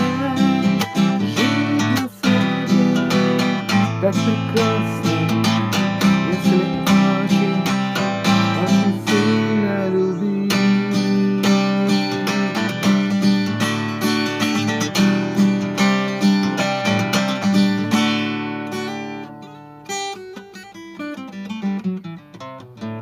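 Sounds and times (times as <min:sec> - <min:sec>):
acoustic guitar strummed chords: 0:00.0 - 0:23.0
picked guitar notes: 0:00.0 - 0:23.0.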